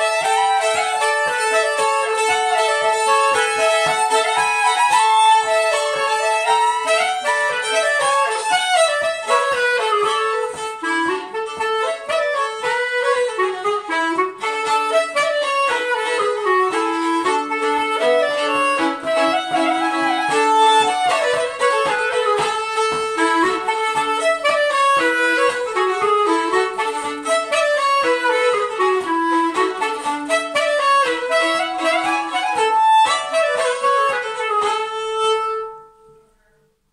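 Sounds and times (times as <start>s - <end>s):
fiddle: 0.0s - 36.6s
clarinet: 0.0s - 36.9s.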